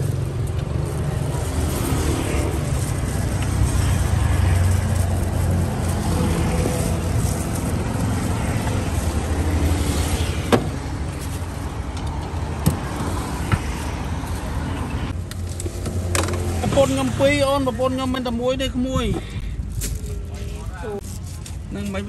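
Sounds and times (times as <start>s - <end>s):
traffic engine rumble: 0.0s - 22.0s.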